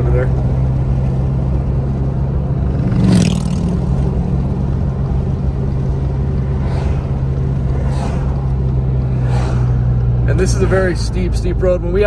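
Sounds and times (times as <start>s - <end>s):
car passing: 0.0s - 12.0s
car road and engine rumble: 0.0s - 12.0s
motorcycle passing: 0.6s - 11.2s.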